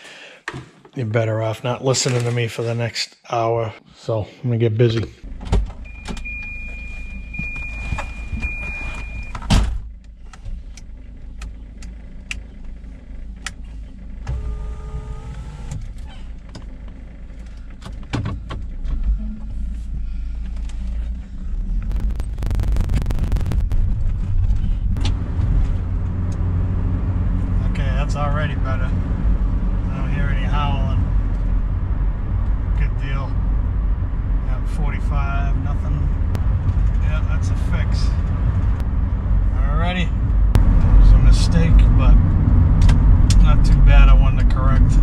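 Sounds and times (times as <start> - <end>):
car engine running inside cabin: 5.3 - 45.0.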